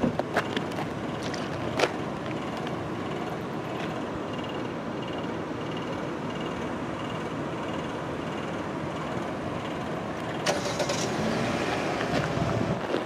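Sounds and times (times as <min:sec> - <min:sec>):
traffic engines running: 0:00.0 - 0:13.0.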